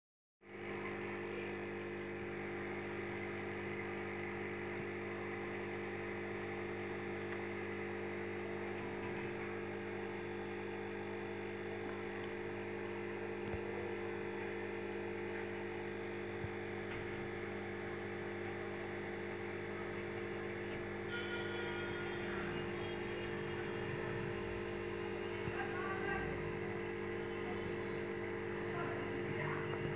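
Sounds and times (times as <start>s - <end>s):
aquarium air pump humming: 0.5s - 29.9s.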